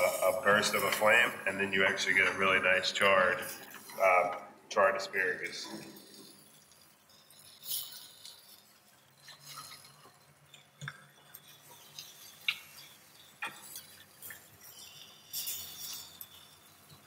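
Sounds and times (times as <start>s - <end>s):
light metal clinks and scrapes: 0.0s - 4.4s, 5.2s - 17.0s.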